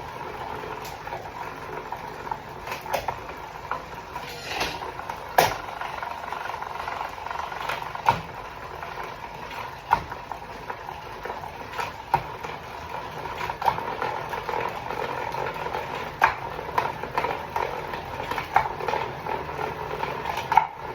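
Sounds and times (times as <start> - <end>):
bicycle drivetrain whirring: 0.0 - 20.9.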